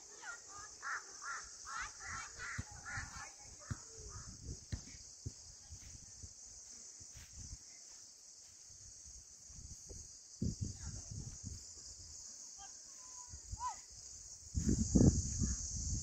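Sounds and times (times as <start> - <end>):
high-pitched insects chorus: 0.0 - 16.0.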